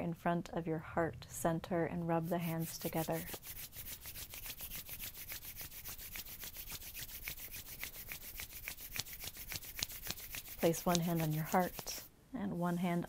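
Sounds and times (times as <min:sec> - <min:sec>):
hands rubbing together: 0:02.2 - 0:12.8.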